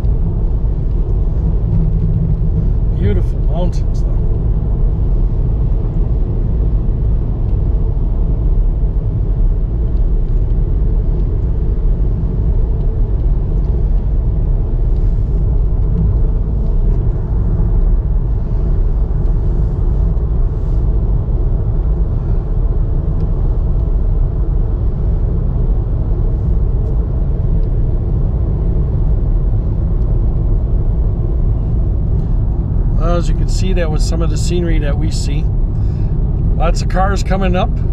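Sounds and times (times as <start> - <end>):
car engine and tyre rumble: 0.0 - 37.9.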